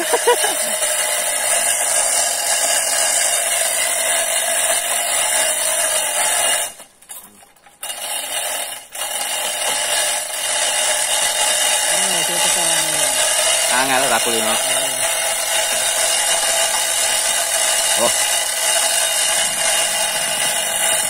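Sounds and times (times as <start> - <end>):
chainsaw running at high revs: 0.0 - 6.9, 7.8 - 21.0.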